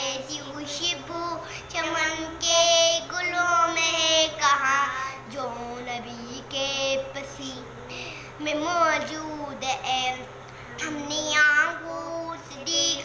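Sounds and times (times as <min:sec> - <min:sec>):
child singing devotional song: 0:00.0 - 0:13.0.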